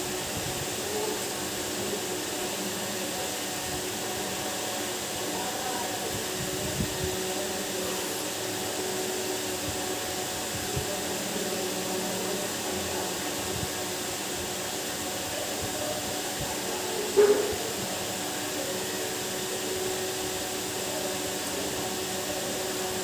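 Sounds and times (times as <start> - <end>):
machine hum with whir: 0.0 - 23.0.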